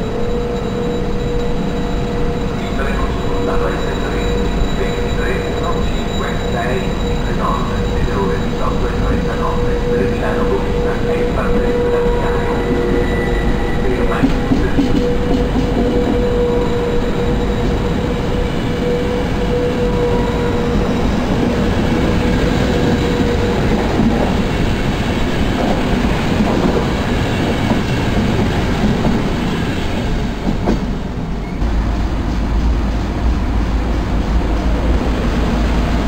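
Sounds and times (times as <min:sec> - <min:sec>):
steady whine: 0:00.0 - 0:29.4
train wheels rumbling on rails: 0:00.0 - 0:36.0.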